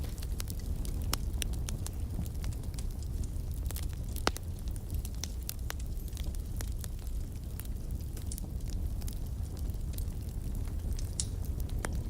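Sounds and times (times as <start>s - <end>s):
fire crackling and popping: 0.0s - 12.0s
fire roaring: 0.0s - 12.0s.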